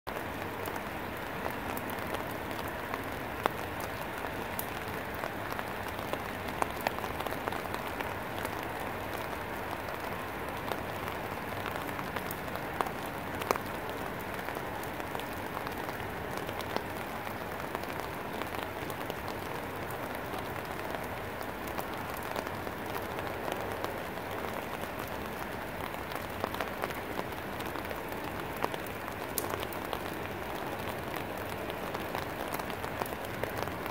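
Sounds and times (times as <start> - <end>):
rain hissing on plants: 0.1 - 33.9.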